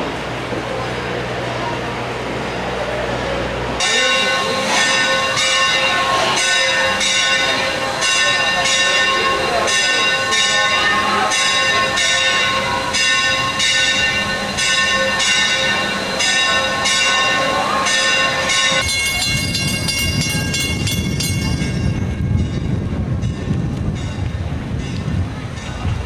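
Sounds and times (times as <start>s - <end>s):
low rumble of locomotive: 0.0s - 26.0s
steam locomotive bell ringing: 0.8s - 26.0s.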